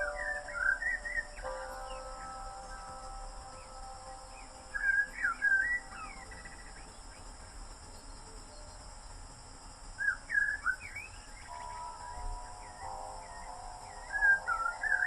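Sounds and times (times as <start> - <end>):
faint steady hiss: 0.0 - 15.0
songbird chirping: 0.0 - 15.0.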